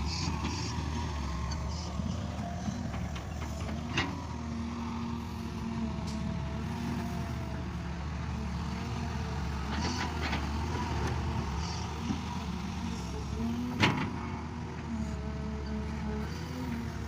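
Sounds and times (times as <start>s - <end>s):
farm machine engine running: 0.0s - 17.0s.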